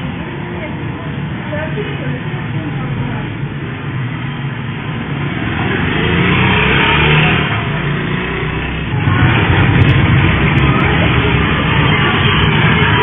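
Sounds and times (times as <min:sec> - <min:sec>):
rough background noise: 0:00.0 - 0:13.0
vehicle engine running: 0:00.0 - 0:13.0.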